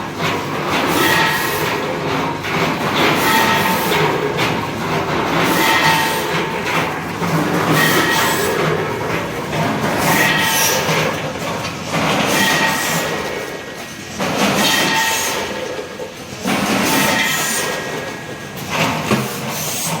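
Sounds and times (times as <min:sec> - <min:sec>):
packaging machine running: 0:00.0 - 0:20.0.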